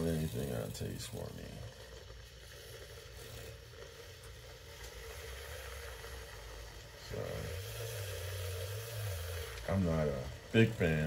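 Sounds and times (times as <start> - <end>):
milk frother whirring: 0.0 - 11.0.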